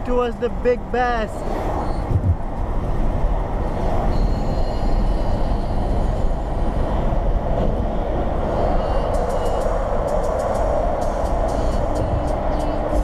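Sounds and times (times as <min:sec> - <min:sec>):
lorry driving alongside: 0:00.0 - 0:13.0
road and tyre noise in car: 0:00.0 - 0:13.0.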